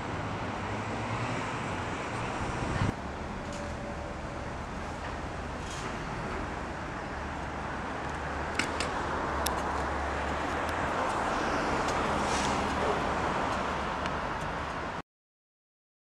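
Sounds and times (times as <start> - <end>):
passing traffic rumble: 0.0 - 15.0.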